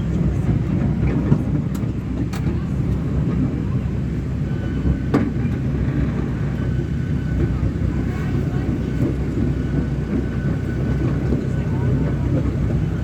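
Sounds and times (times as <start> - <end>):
ride-on train rumbling: 0.0 - 13.0.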